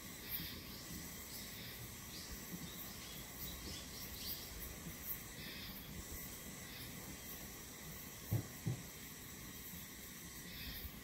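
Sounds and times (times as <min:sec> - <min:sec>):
faint high-pitched chirps: 0:00.0 - 0:07.9, 0:09.6 - 0:11.0
steady outdoor hiss: 0:00.0 - 0:11.0.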